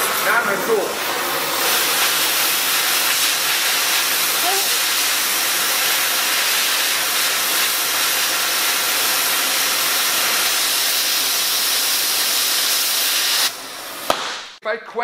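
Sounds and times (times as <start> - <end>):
torch flame hissing: 0.0 - 14.6.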